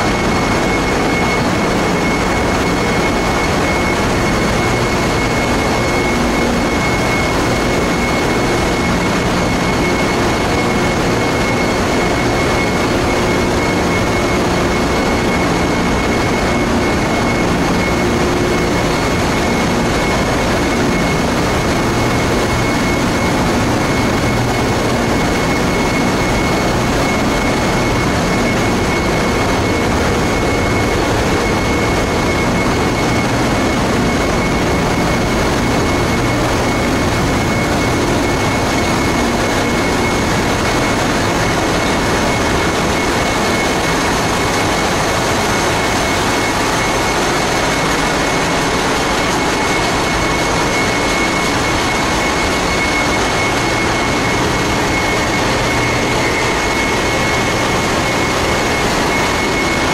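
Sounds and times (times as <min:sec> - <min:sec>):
engine room machinery din: 0:00.0 - 0:59.9
high steady whine: 0:00.0 - 0:59.9.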